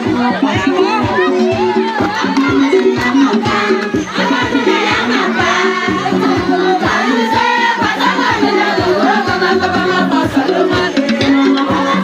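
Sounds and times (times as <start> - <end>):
steady drum beat: 0.0 - 12.0
voices singing together: 0.0 - 12.0.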